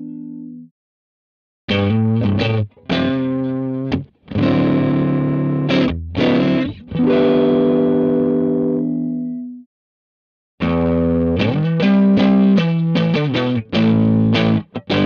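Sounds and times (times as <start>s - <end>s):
overdriven electric guitar chords: 1.7s - 9.6s, 10.6s - 15.0s.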